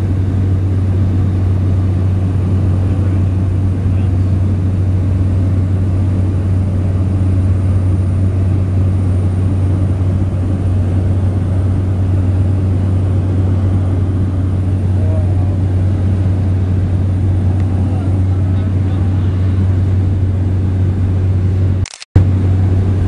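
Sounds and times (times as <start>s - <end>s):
light aircraft engine drone: 0.0s - 23.0s.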